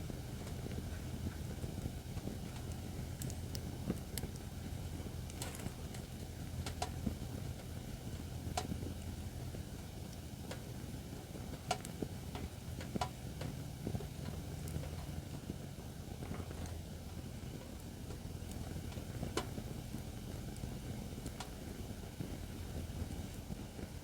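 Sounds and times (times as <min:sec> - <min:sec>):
firewood crackling and popping: 0:00.0 - 0:24.0
low fire rumble: 0:00.0 - 0:24.0.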